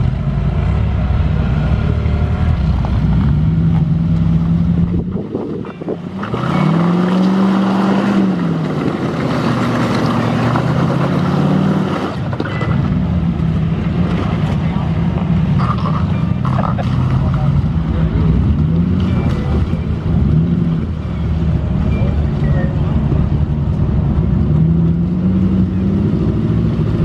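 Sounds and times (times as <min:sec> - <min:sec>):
engine revving under load: 0:00.0 - 0:27.0.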